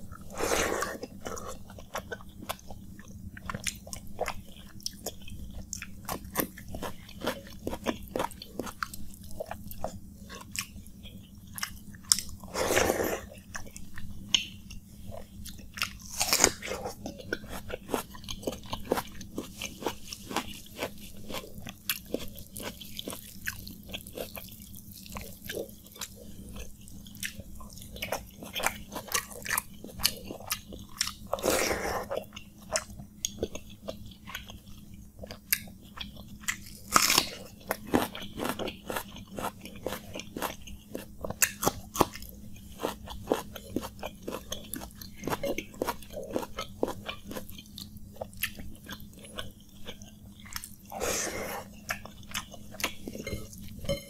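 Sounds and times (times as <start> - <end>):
chewing watery rice: 0.0 - 54.0.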